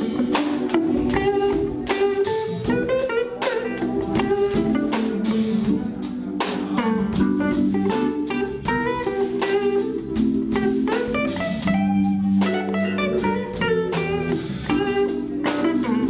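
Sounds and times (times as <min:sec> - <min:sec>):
drums slow beat: 0:00.0 - 0:16.0
guitar single-note lines: 0:00.0 - 0:16.0
organ holding low chords: 0:00.0 - 0:16.0.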